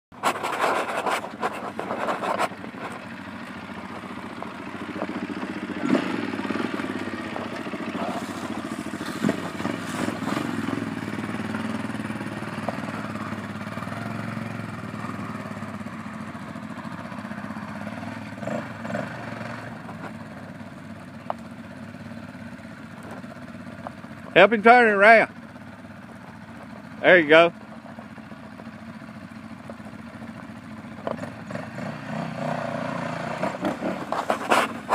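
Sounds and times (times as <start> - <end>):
off-road vehicle engine running: 0.1 - 34.9.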